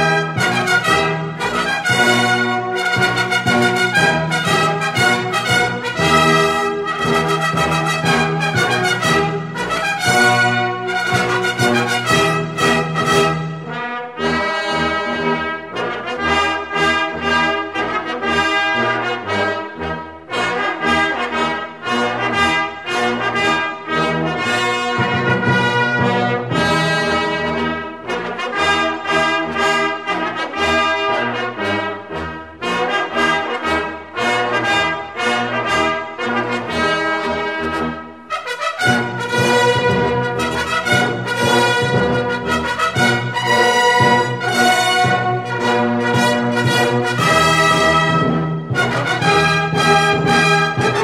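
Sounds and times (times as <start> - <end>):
brass ensemble playing: 0.0 - 51.0.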